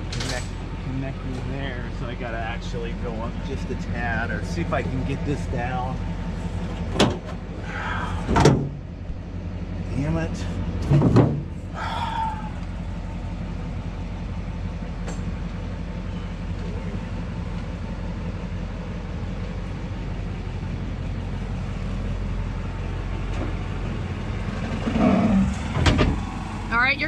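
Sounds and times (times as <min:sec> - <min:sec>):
engine droning: 0:00.0 - 0:27.0.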